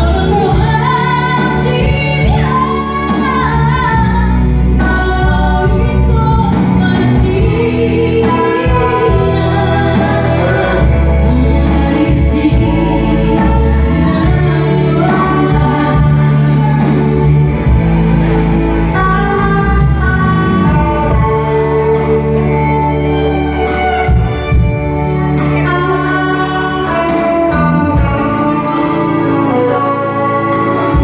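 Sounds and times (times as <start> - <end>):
woman singing: 0.0 - 17.7, 18.9 - 23.1, 25.5 - 31.0
band backing track with beat: 0.0 - 31.0.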